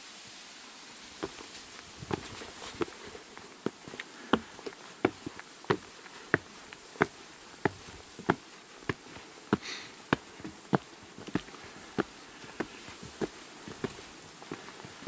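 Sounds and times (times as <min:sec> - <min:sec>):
footsteps walking: 0:01.1 - 0:15.0.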